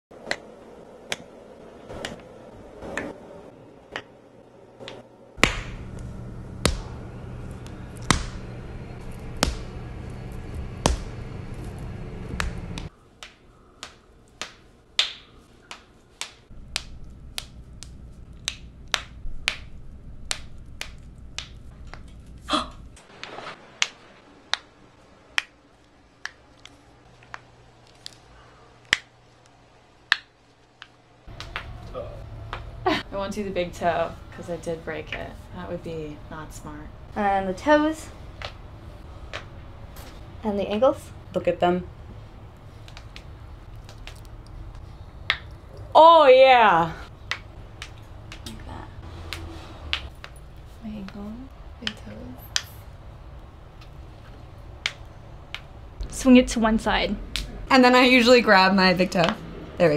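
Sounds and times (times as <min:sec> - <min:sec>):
low background hum: 0:00.1 - 0:59.9.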